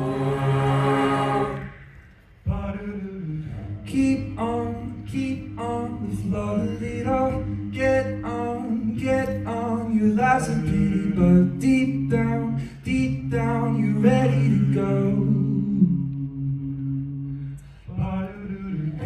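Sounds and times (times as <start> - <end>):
a cappella group singing: 0.0 - 19.0.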